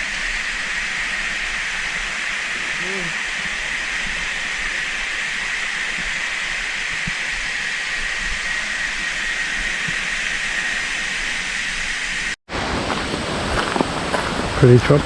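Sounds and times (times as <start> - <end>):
thin high-pitched whine: 0.0 - 12.4
creek water rushing: 0.0 - 15.0.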